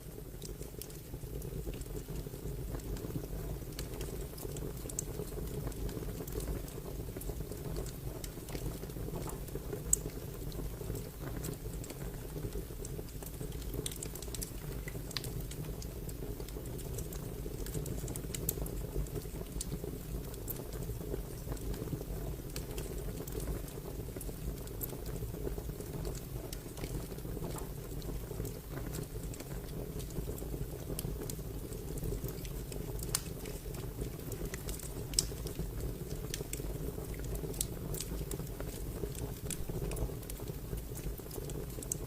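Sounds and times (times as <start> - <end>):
fire crackling: 0.1 - 42.0.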